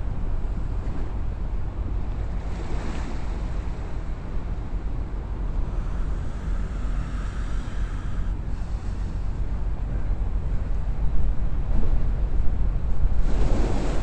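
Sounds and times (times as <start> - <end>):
seaside wind and water: 0.0 - 14.0
wind buffeting microphone: 0.0 - 14.0.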